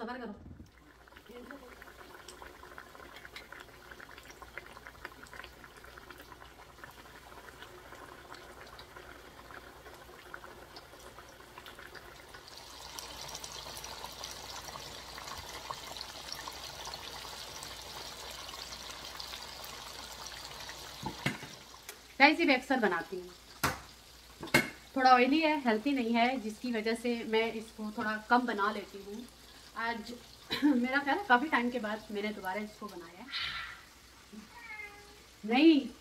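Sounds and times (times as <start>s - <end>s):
oil crackling in a pan: 0.7s - 36.0s
chicken sizzling in oil: 0.8s - 36.0s.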